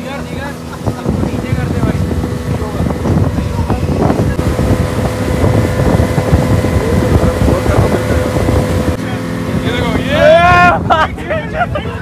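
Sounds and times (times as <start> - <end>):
speedboat engine whine: 0.0 - 12.0
water rushing past hull: 0.0 - 12.0
wind buffeting microphone: 0.0 - 12.0.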